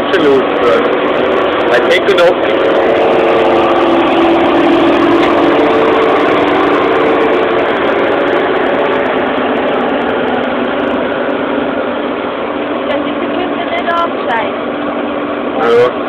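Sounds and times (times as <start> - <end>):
flail mower cutting hedge: 0.0 - 16.0
tractor engine running: 0.0 - 16.0.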